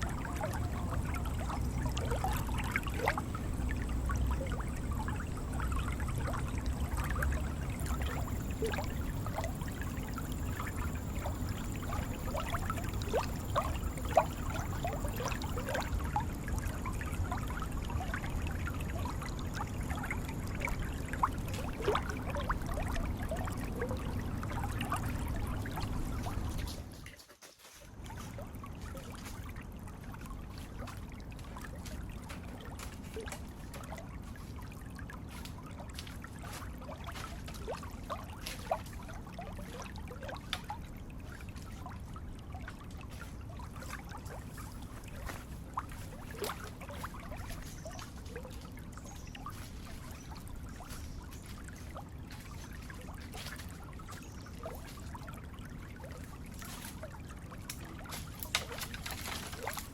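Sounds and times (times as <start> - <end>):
running water trickling and splashing: 0.0 - 59.9.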